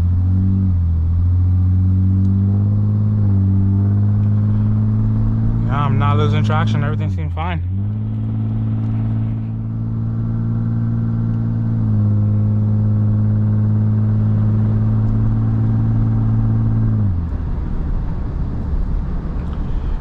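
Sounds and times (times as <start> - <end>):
car engine cruising drone: 0.0 - 20.0
road and tyre rumble: 0.0 - 20.0.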